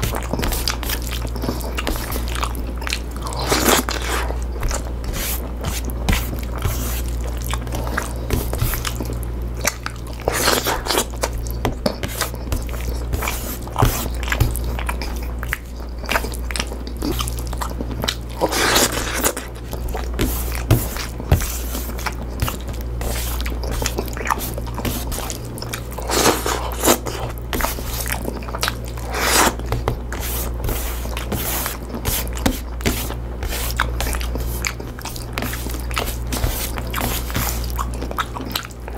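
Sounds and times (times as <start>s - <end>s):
person chewing food: 0.0s - 38.9s
steady low hum: 0.0s - 38.9s.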